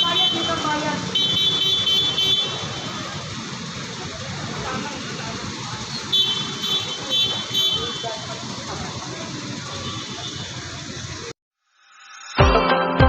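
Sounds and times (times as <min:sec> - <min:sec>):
street traffic: 0:00.0 - 0:11.4.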